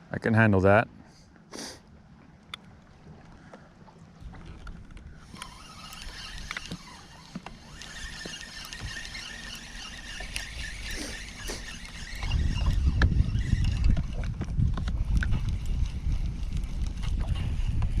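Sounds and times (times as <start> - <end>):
wind and water rumble: 0.0 - 18.0.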